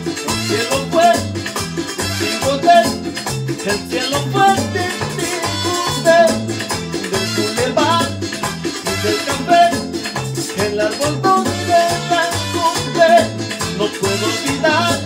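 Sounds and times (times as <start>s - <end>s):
bass line: 0.0s - 15.0s
melodic lead line: 0.0s - 15.0s.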